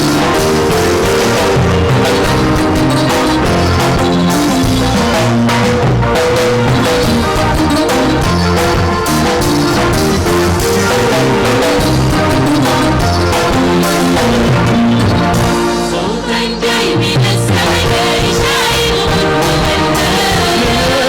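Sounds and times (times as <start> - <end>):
steady drum beat: 0.0 - 21.0
sustained pitched instruments: 0.0 - 21.0.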